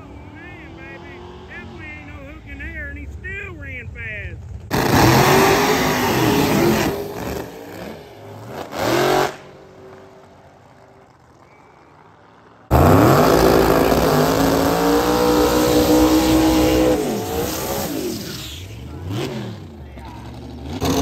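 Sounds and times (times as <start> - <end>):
drag car engine burnout: 0.0 - 21.0
drag car engine revving: 0.0 - 21.0.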